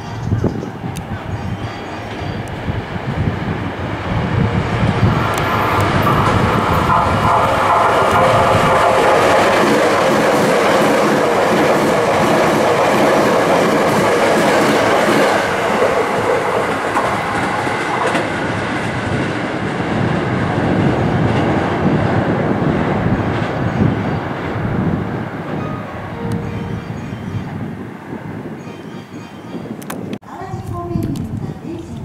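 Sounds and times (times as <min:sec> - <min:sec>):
electric train passing: 0:00.0 - 0:29.8.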